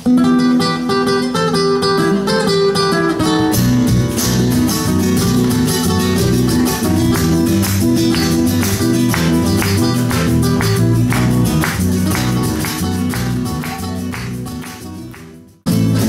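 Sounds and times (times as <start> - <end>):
acoustic guitars playing: 0.0 - 16.0
cajon percussion: 1.6 - 16.0
bass guitar: 3.1 - 16.0.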